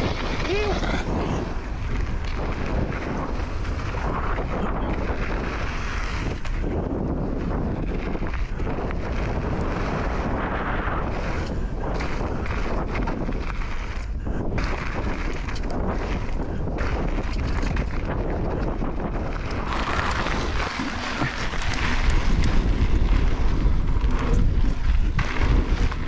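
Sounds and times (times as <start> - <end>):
bike rolling over dirt trail: 0.0 - 26.0
wind buffeting microphone: 0.0 - 26.0.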